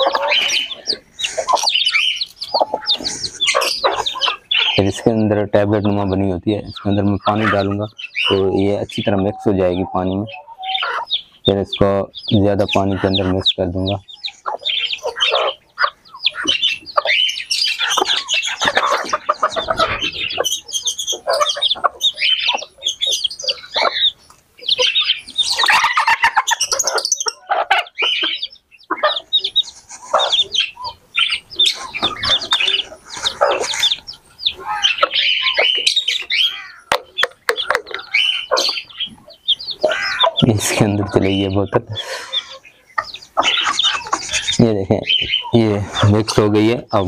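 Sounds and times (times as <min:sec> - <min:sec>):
chickens clucking: 0:00.0 - 0:47.0
high chirps: 0:00.0 - 0:47.0.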